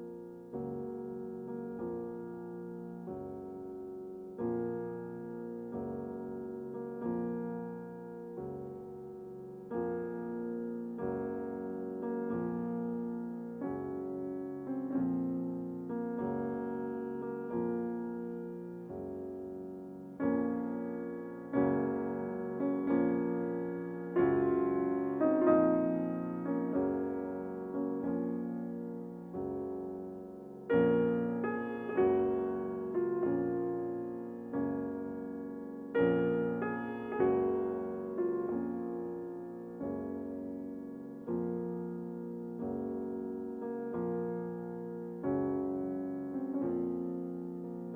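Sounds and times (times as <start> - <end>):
slow piano chords: 0.0 - 47.9.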